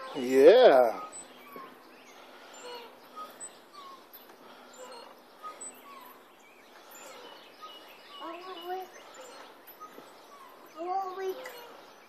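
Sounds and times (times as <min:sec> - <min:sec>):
faint bird chirps: 0:00.0 - 0:12.0
outdoor background noise: 0:00.0 - 0:12.0.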